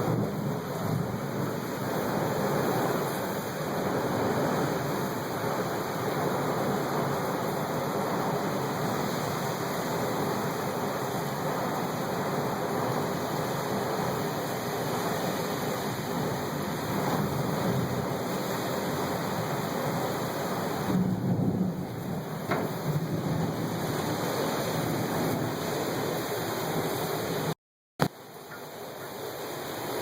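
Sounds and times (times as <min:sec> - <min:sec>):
heavy rain pouring: 0:00.0 - 0:30.0
squall wind: 0:00.0 - 0:30.0.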